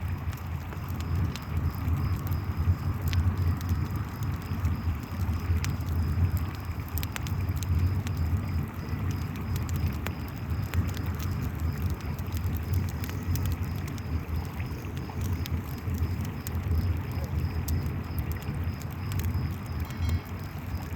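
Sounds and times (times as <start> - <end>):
campfire crackling and popping: 0.0 - 20.9
crickets chirping: 1.0 - 20.9.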